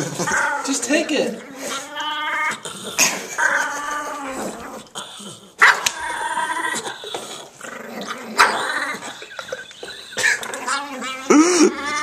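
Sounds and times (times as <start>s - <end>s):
small dog growling: 0.0s - 12.0s.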